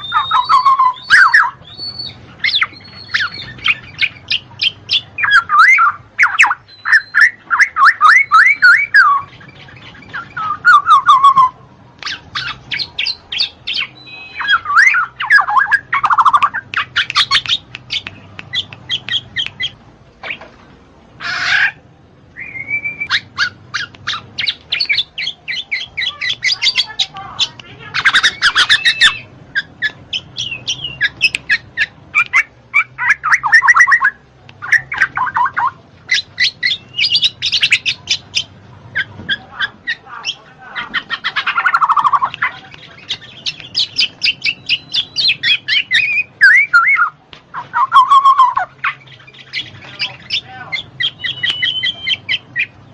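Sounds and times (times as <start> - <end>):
bird singing fast chattering phrases: 0.0 - 20.4, 21.1 - 52.9.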